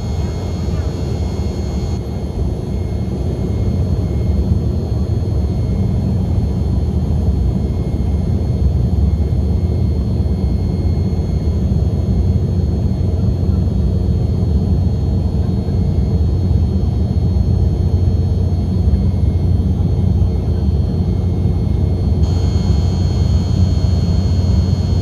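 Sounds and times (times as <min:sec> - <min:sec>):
high engine whine: 0:00.0 - 0:25.0
jet engine cabin rumble: 0:00.0 - 0:25.0.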